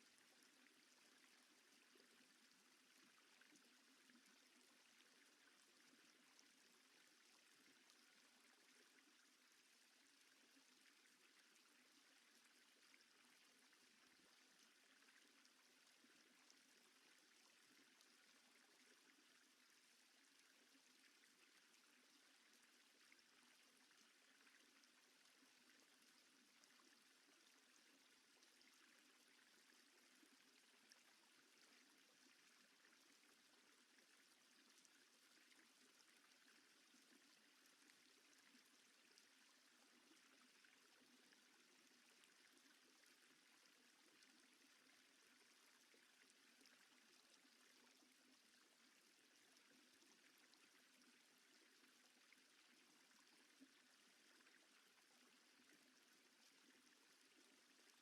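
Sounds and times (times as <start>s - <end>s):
faint steady hiss: 0.0s - 58.0s.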